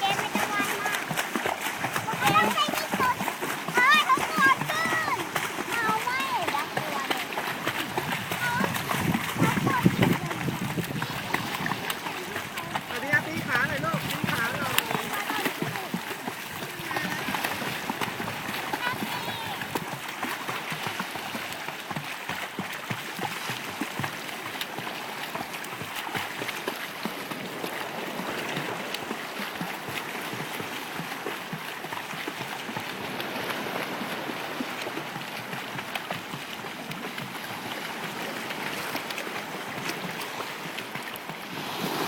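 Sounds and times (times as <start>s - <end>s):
sea water sloshing and splashing: 0.0s - 42.0s.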